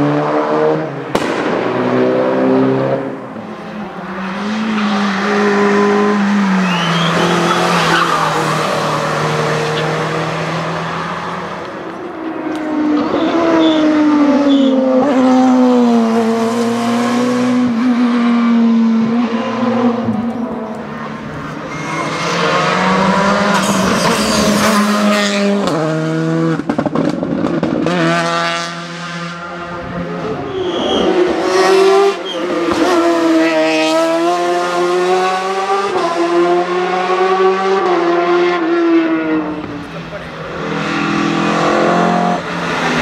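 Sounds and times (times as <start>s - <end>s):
race car engine revving: 0.0s - 43.0s.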